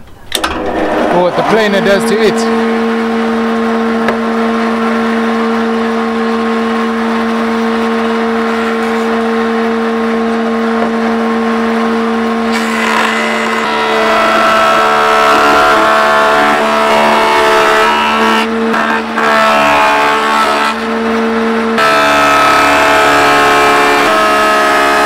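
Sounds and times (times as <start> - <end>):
electric planer humming: 0.3 - 25.0
planer cutting wood with whine: 0.4 - 25.0.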